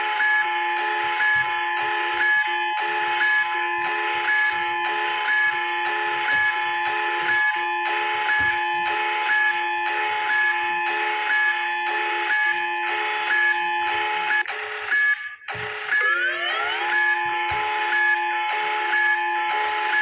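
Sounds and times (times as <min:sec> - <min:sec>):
multi-tone alarm drone: 0:00.0 - 0:20.0
pulsing beep: 0:00.3 - 0:20.0.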